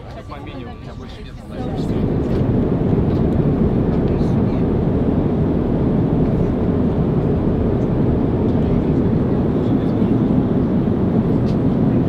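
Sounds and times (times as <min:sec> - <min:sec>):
jet cabin engine drone: 0:00.0 - 0:12.0.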